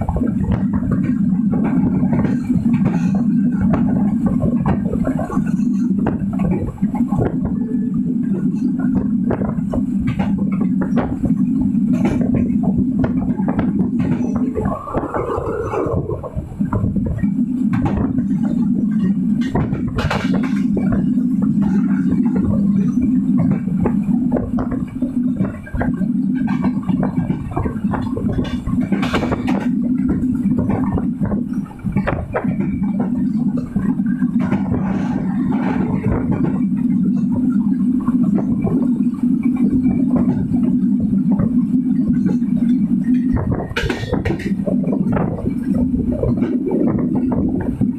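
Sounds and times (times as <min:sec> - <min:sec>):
clicks and rattles: 0:00.0 - 0:47.9
train wheels rumbling on rails: 0:00.0 - 0:47.9.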